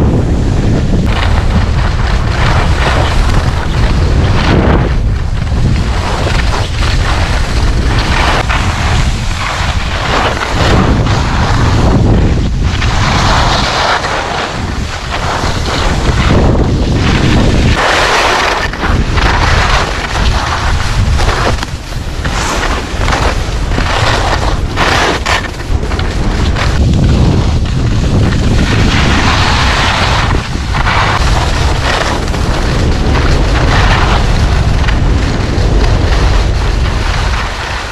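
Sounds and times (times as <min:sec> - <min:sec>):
wind buffeting microphone: 0:00.0 - 0:37.9
skis hissing on snow: 0:05.7 - 0:37.9.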